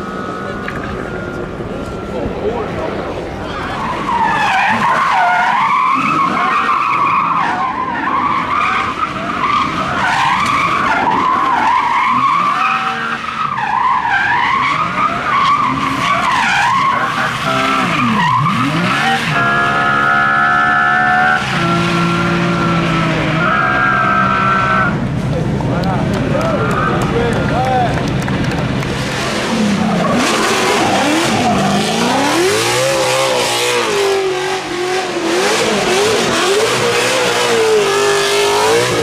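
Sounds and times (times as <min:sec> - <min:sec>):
race car tyres squealing: 0:00.0 - 0:25.2, 0:25.8 - 0:27.9, 0:28.6 - 0:39.0
race car engine revving: 0:00.0 - 0:39.0.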